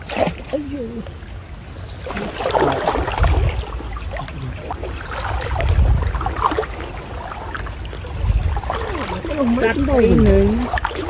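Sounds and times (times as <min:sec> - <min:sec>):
low rumbling water surges: 0:00.0 - 0:11.0
water swishing and sloshing: 0:00.0 - 0:11.0.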